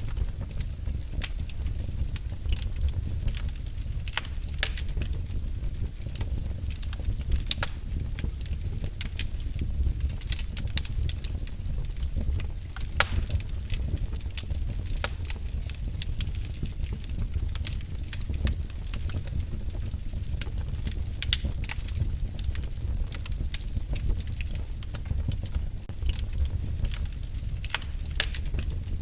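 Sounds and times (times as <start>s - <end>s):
fire crackling and popping: 0.0s - 29.0s
fire rumbling: 0.0s - 29.0s.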